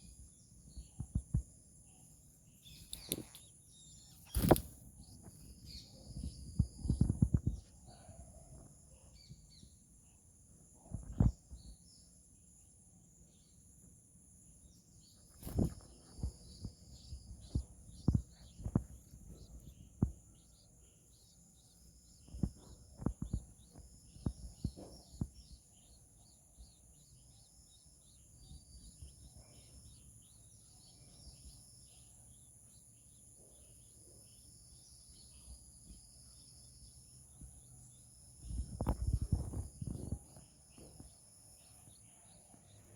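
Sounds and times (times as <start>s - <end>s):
birds chirping: 0.0s - 10.2s, 14.8s - 42.9s.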